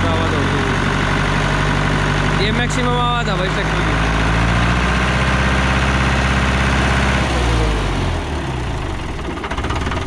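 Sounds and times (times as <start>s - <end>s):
muffled tractor diesel engine: 0.0s - 10.0s.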